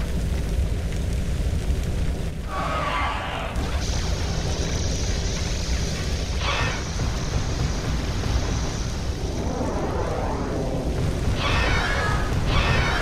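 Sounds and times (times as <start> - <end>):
deep rumble: 0.0 - 13.0
noisy burst: 0.0 - 13.0
high rushing hiss: 2.5 - 13.0.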